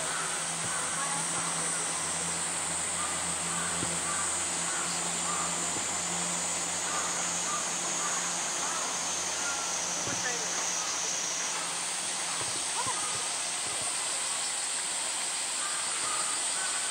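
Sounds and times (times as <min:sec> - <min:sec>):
high-pitched drone: 0:00.0 - 0:16.9.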